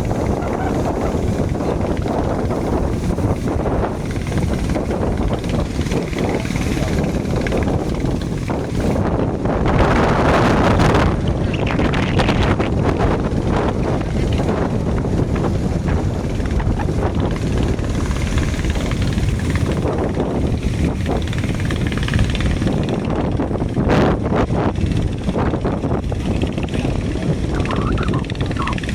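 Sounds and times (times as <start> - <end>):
boat engines running: 0.0 - 28.9
wind buffeting microphone: 0.0 - 28.9.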